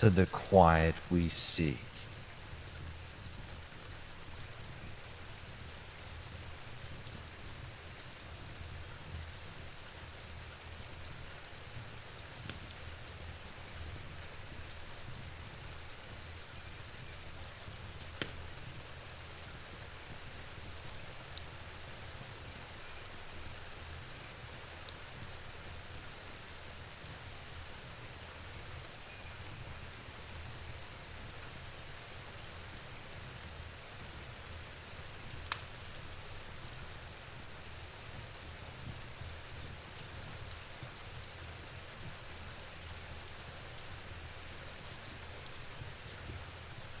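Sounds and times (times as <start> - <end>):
steady rain hiss: 0.0 - 47.0
wood fire crackling: 0.0 - 47.0.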